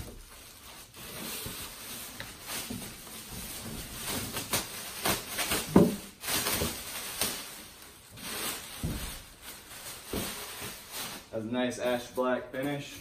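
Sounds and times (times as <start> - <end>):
foam packing handled: 0.0 - 12.8
plastic bag rustling and crinkling: 0.0 - 13.0.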